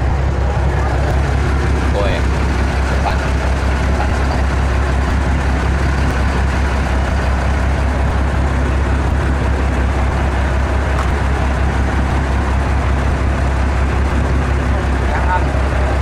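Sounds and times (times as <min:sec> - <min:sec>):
boat engine deep hum: 0:00.0 - 0:16.0.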